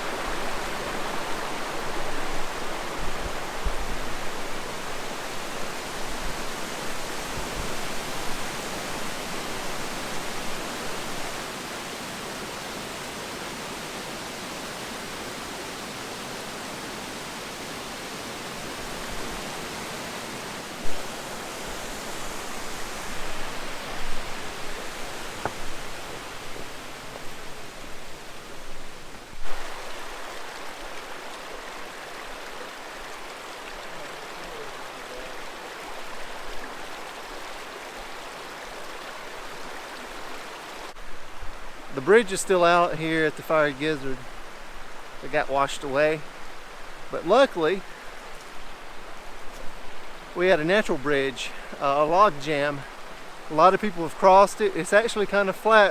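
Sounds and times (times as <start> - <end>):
creek water rushing: 0.0 - 55.9.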